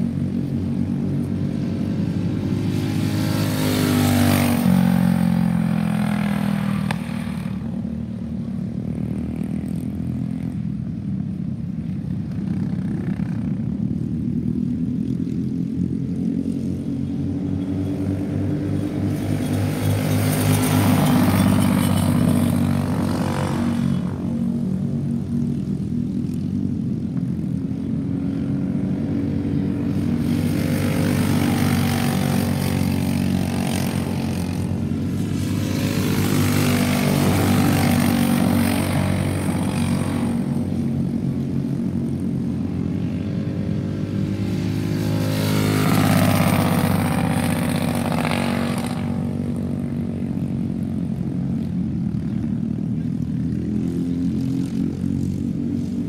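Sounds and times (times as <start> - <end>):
go-kart engines buzzing: 0.0 - 56.0.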